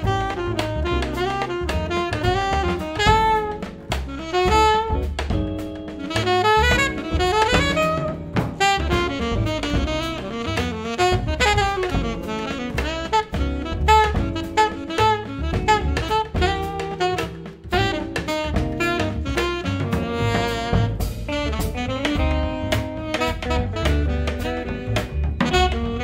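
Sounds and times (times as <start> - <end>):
drum kit: 0.0 - 26.0
saxophone melody: 0.0 - 26.0.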